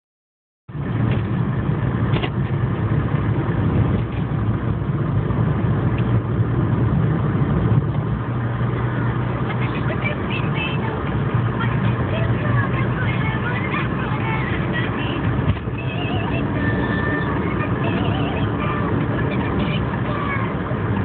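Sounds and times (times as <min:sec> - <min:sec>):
vehicle engine and road noise: 0:00.7 - 0:21.0.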